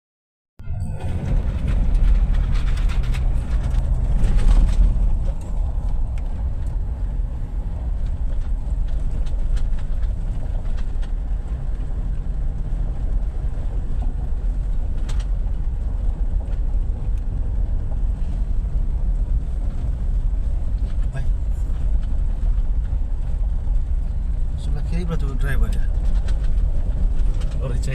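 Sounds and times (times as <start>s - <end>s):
vehicle engine and road noise: 0.6s - 27.9s.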